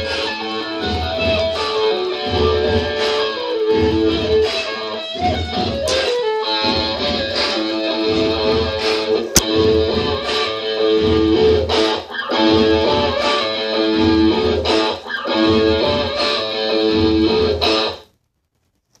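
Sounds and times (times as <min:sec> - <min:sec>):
guitar music with steady beat: 0:00.0 - 0:18.1.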